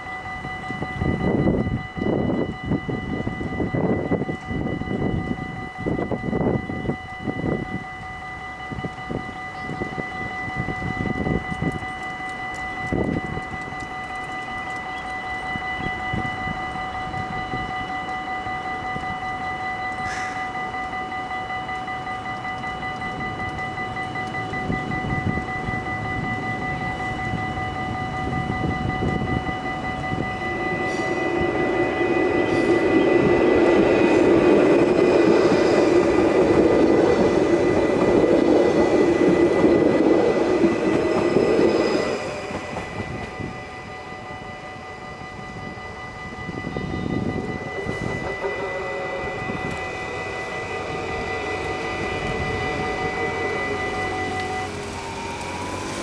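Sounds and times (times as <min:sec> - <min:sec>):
electric train passing: 0:00.0 - 0:56.0
level crossing warning bells: 0:00.0 - 0:56.0.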